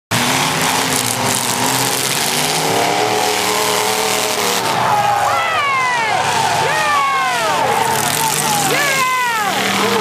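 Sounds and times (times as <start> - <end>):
car engine revving: 0.1 - 10.0
engines and arena noise: 0.1 - 10.0.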